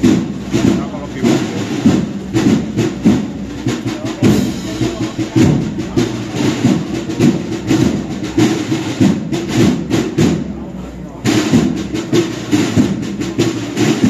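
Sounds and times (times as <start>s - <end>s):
drum beats: 0.0s - 14.0s
wind band playing a march: 0.0s - 14.0s.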